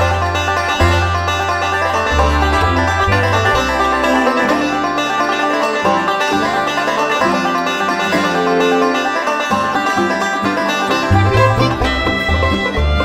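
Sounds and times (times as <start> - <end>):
bluegrass music with banjo: 0.0 - 13.0.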